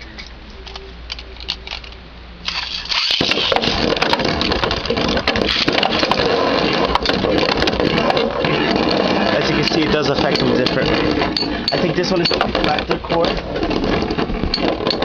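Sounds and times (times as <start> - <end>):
spinning tops clattering: 0.0 - 12.9.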